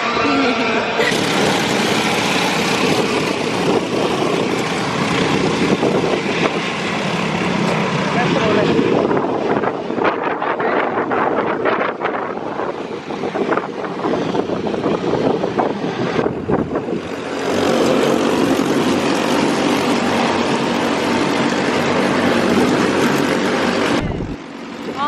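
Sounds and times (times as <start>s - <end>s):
kart engines droning: 0.0s - 9.7s, 12.8s - 25.0s.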